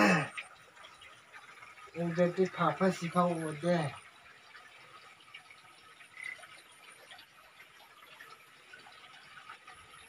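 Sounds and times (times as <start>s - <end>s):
faint outdoor ambience: 0.0s - 10.0s.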